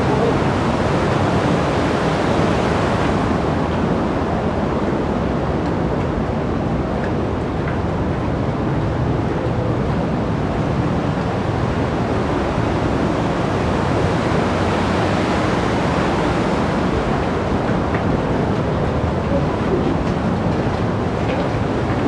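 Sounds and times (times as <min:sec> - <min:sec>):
mountain stream rushing: 0:00.0 - 0:06.2, 0:09.8 - 0:22.0.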